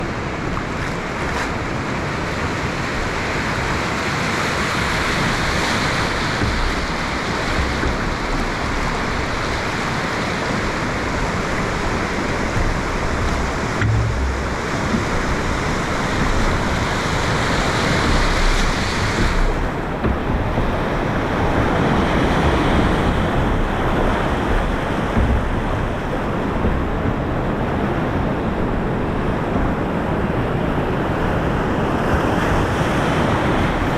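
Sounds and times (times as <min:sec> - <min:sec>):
river rapid rushing: 0:00.0 - 0:33.9
wind buffeting microphone: 0:00.0 - 0:33.9.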